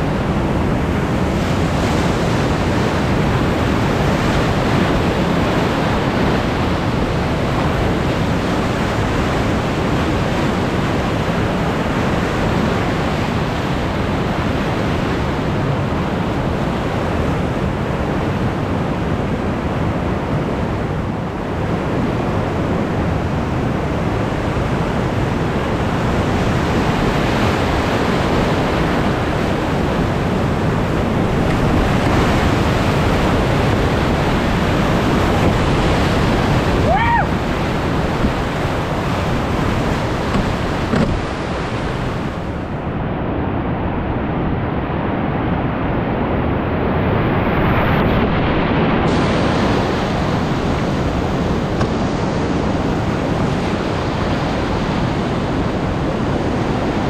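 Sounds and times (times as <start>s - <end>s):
whitewater rapids rushing: 0.0s - 42.9s, 47.2s - 57.0s.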